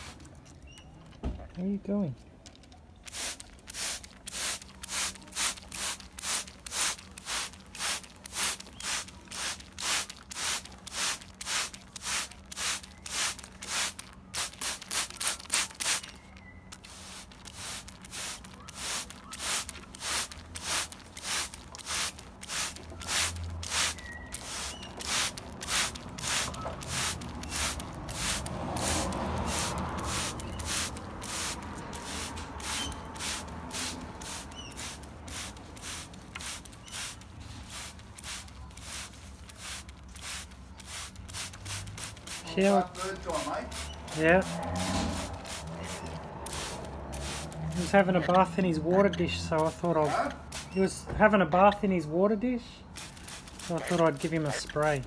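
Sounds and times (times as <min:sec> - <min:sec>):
spray bottle hissing: 0:03.1 - 0:42.6, 0:43.7 - 0:47.9, 0:50.5 - 0:50.8, 0:53.0 - 0:54.3.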